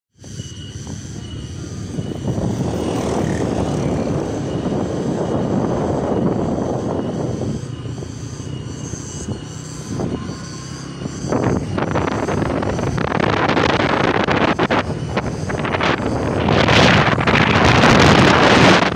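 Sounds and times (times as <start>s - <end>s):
wind and road noise: 0.1s - 18.9s
motorcycle engine running: 0.6s - 18.9s.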